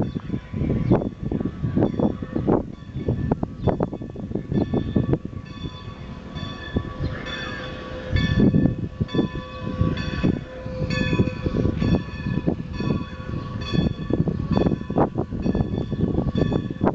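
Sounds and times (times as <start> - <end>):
locomotive bell ringing: 0.0 - 16.9
low locomotive beats: 0.0 - 16.9.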